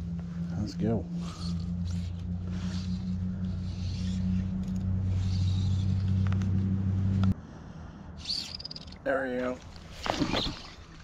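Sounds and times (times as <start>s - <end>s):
low hum with pitched tones: 0.0s - 9.1s.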